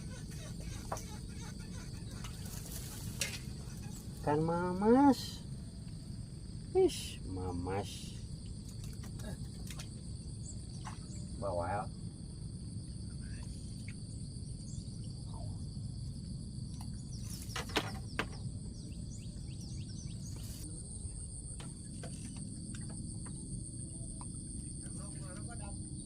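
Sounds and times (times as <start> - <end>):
high insect drone: 0.0 - 26.0
low rumbling background noise: 0.0 - 26.0.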